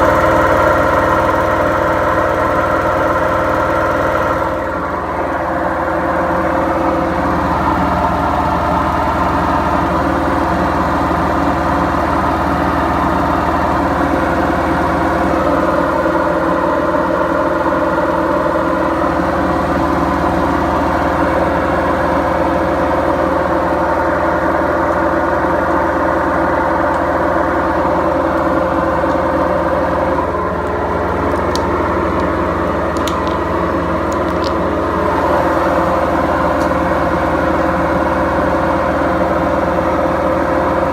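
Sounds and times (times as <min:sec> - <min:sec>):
washing machine drum droning: 0:00.0 - 0:40.9.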